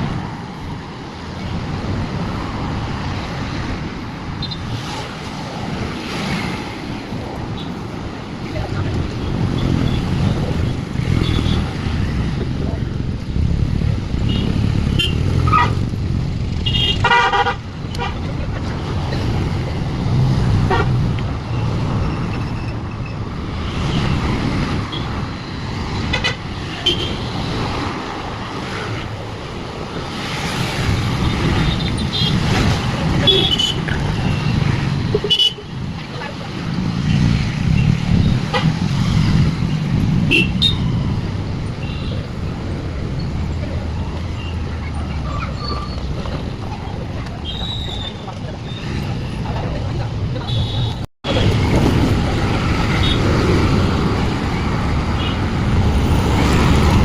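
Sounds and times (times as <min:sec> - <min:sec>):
road traffic: 0:00.0 - 0:57.0.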